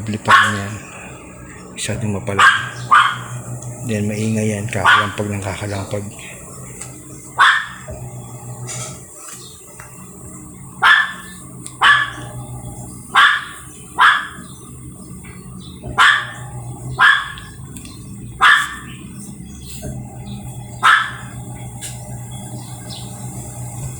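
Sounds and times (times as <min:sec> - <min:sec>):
washing machine low hum: 0:00.0 - 0:23.9.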